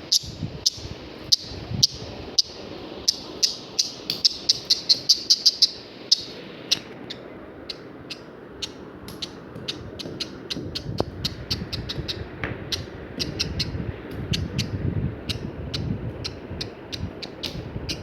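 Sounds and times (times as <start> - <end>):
parrot chirping: 0.0 - 18.0.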